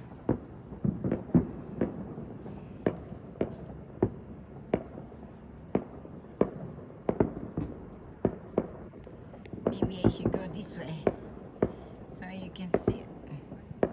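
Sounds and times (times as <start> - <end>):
distant fireworks bangs and pops: 0.0 - 13.9.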